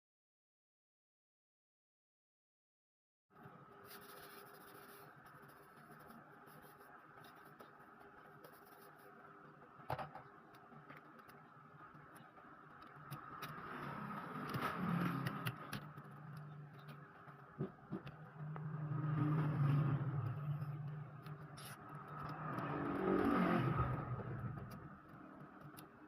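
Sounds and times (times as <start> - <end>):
handling clicks and scratching: 3.4 - 26.0
low hum: 3.4 - 26.0.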